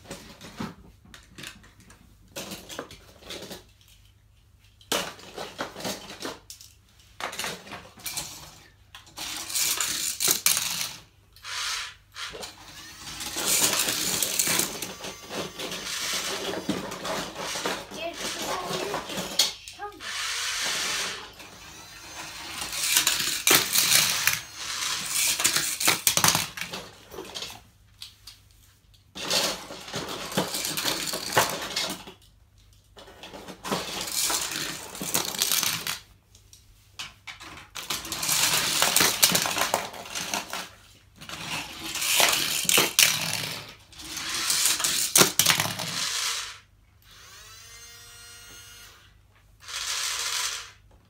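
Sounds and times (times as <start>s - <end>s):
toy cars rattling down plastic track: 1.2s - 4.1s, 4.8s - 28.1s, 29.2s - 36.1s, 37.3s - 48.9s, 49.6s - 50.9s.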